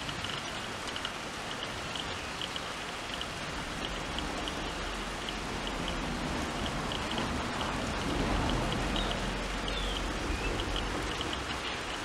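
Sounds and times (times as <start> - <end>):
steady outdoor hiss: 0.0 - 12.0
short high ticks: 0.1 - 12.0.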